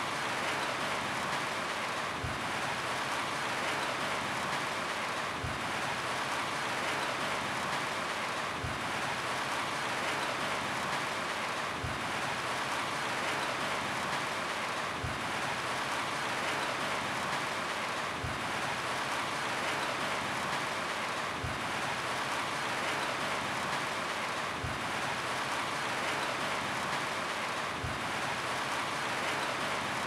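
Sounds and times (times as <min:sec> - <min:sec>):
rain falling on a roof: 0:00.0 - 0:30.0.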